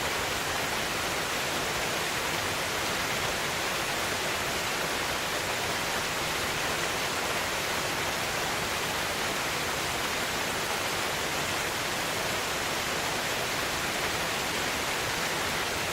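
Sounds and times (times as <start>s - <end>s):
waterfall rushing and splashing: 0.0s - 15.9s.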